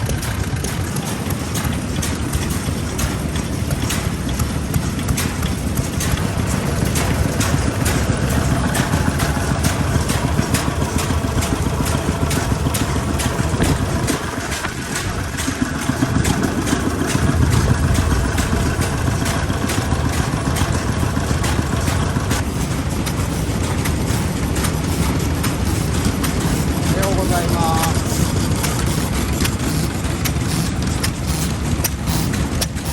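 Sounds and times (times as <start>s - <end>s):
stationary engine running slowly: 0.0s - 32.9s.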